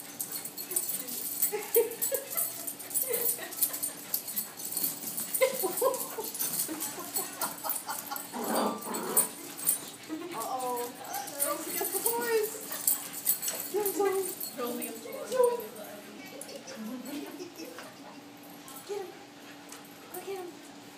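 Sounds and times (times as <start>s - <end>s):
puppies scuffling: 0.0s - 20.2s.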